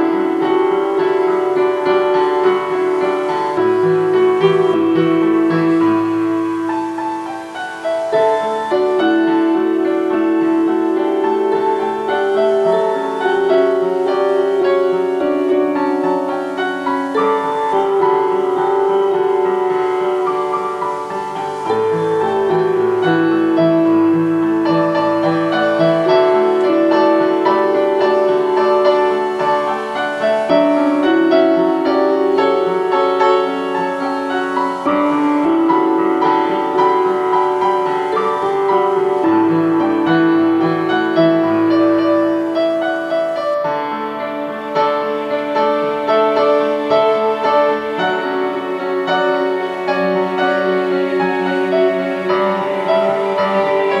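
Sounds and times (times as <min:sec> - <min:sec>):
piano piece: 0:00.0 - 0:54.0
string accompaniment: 0:00.0 - 0:54.0.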